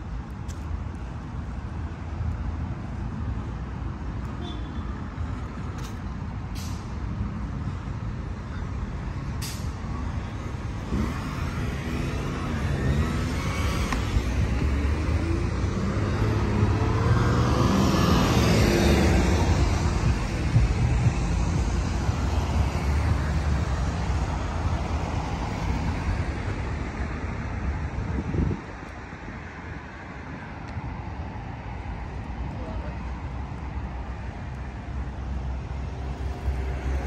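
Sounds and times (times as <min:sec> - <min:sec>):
cars and bus driving past: 0:00.0 - 0:37.0.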